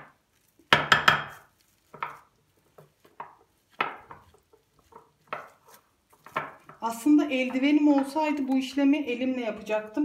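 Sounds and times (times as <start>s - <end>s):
wooden spoon knocking and scraping: 0.0s - 10.0s.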